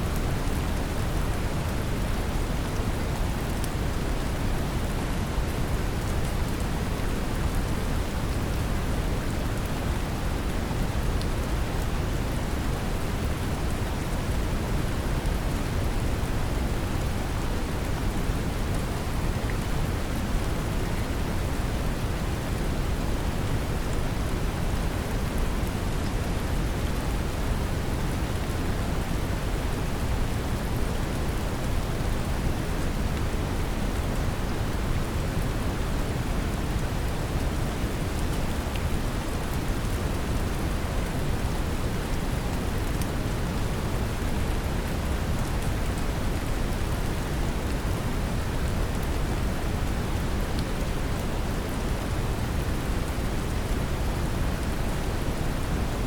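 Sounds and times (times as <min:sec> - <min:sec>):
brown noise rumbling hiss: 0:00.0 - 0:56.0
gentle rain patter: 0:00.0 - 0:56.0.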